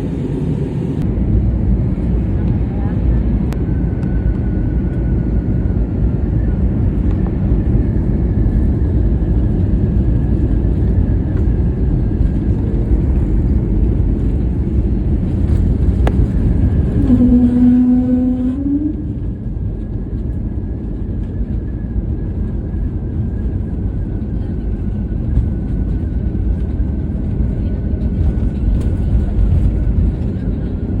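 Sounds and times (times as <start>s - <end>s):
vehicle cabin rumble: 0.0s - 31.0s.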